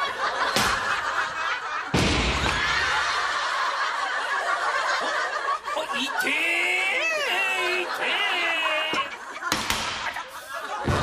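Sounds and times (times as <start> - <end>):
audience laughter: 0.0 - 11.0.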